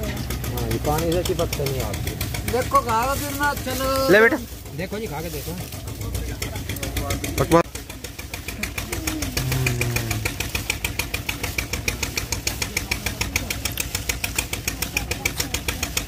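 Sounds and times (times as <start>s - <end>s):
engine running with knocking beat: 0.0s - 16.0s.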